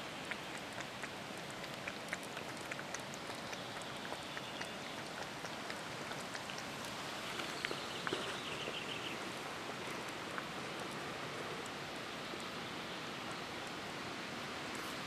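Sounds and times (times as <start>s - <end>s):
light crackles and rustles: 0.0s - 12.6s, 13.2s - 15.0s
steady outdoor noise: 0.0s - 15.0s.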